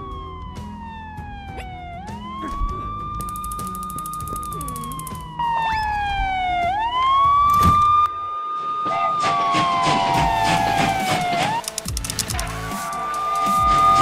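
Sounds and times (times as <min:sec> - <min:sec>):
cartoon ambulance siren: 0:00.0 - 0:11.7, 0:12.5 - 0:14.0.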